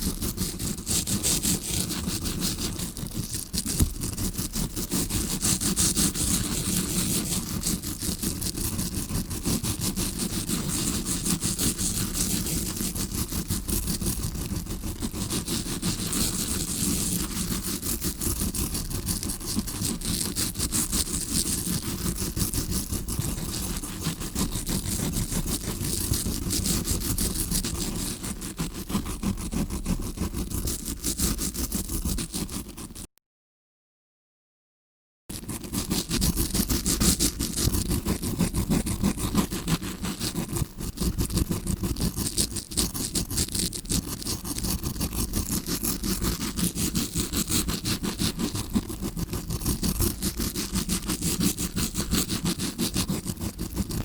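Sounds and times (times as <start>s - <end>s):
brush scratching against microphone: 0.0s - 33.1s, 35.3s - 54.0s.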